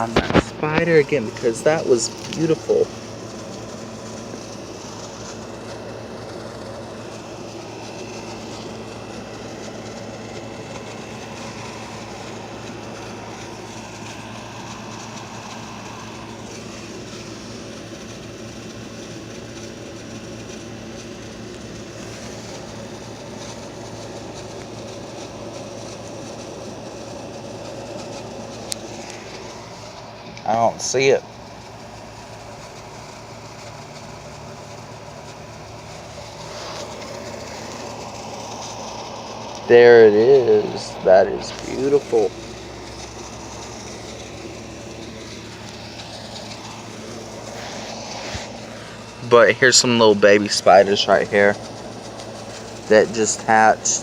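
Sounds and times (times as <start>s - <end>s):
faint steady whine: 0.0s - 54.0s
machine running with low hum: 0.0s - 54.0s.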